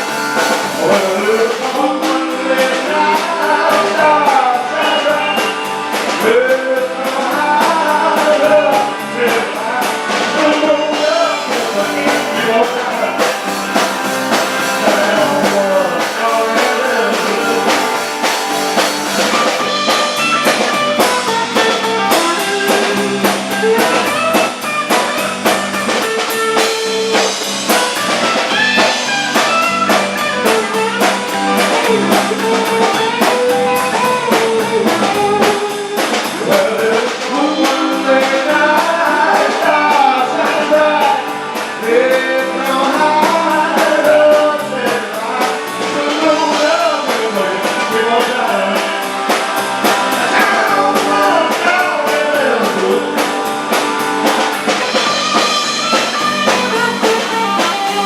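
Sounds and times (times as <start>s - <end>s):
electric guitar: 0.0s - 58.0s
rock band playing: 0.0s - 58.0s
steady drum beat: 0.0s - 58.0s.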